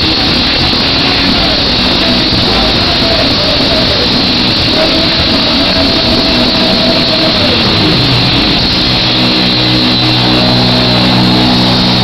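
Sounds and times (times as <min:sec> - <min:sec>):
distorted guitar note: 0:00.0 - 0:12.0
punk band playing live: 0:00.0 - 0:12.0.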